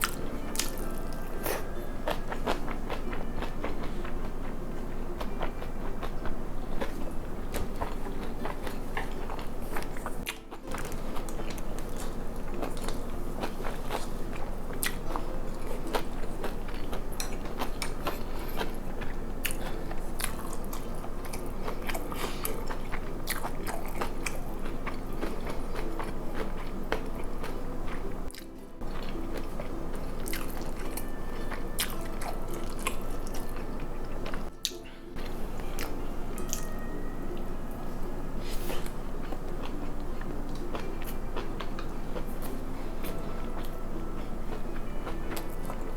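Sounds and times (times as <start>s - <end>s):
chewing and crunching: 0.0s - 36.8s, 38.4s - 45.9s
steady low hum: 0.0s - 45.9s.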